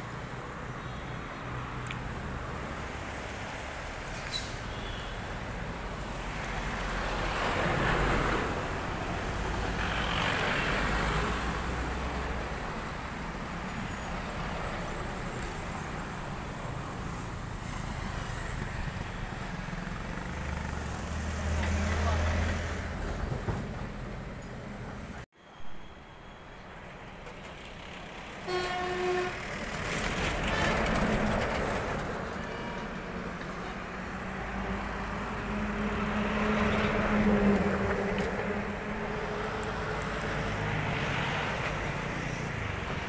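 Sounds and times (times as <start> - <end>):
vehicles passing: 0.0 - 25.3, 26.7 - 43.0
traffic hum of engines and tyres: 0.0 - 43.0.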